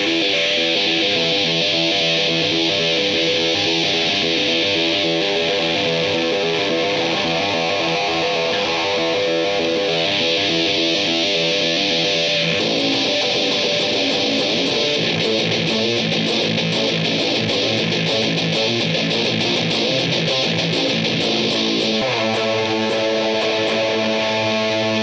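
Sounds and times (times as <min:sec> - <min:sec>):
fuzzed electric guitar riff: 0:00.0 - 0:25.0.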